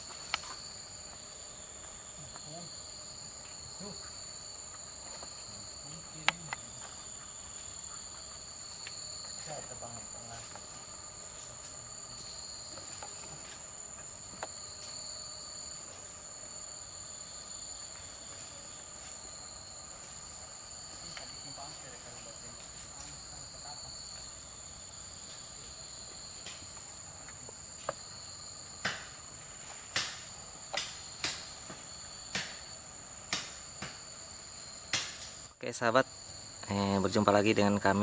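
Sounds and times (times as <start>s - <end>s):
high-pitched insect chorus: 0.0s - 38.0s
lower shrill insect band: 0.0s - 38.0s.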